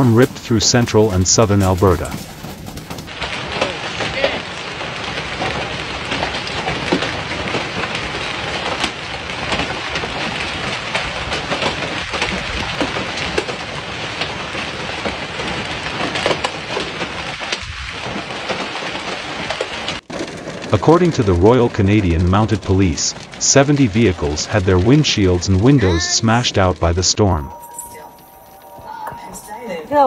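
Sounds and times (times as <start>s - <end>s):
hail and rain pelting pavement: 0.0s - 30.0s.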